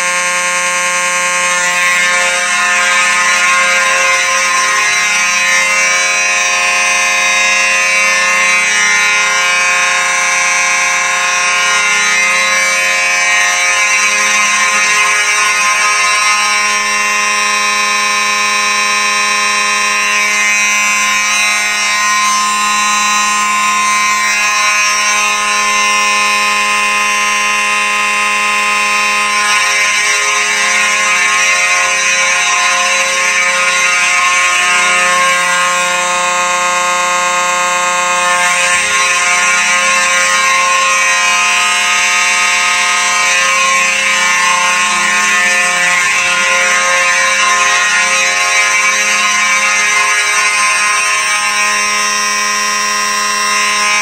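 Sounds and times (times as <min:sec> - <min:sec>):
fire alarm horns blaring: 0:00.0 - 0:54.0.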